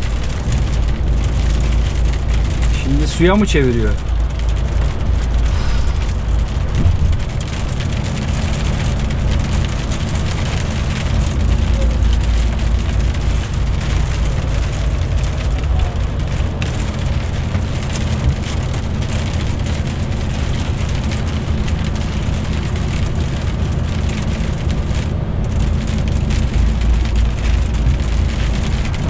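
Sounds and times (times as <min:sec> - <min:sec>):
truck engine drone: 0:00.0 - 0:29.0
tyre and road noise: 0:00.0 - 0:29.0.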